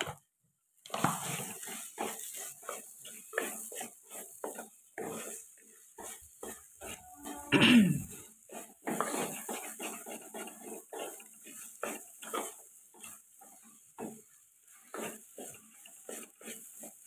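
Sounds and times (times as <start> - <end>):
wooden spatula scraping a pot: 0.8 - 17.0.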